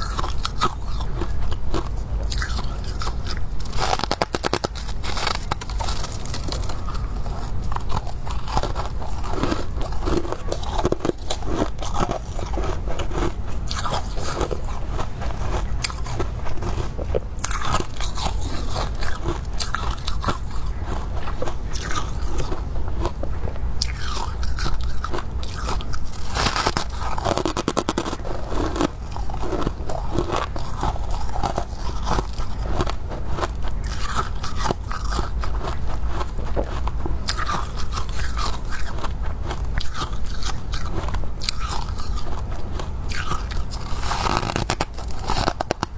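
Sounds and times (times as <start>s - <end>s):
frost crunching being chewed: 0.0s - 45.9s.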